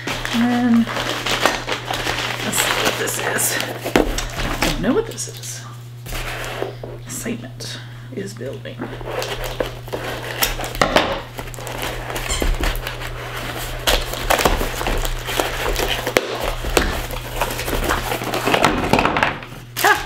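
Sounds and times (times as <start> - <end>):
paper ripping and crinkling: 0.0 - 6.8, 8.9 - 19.0.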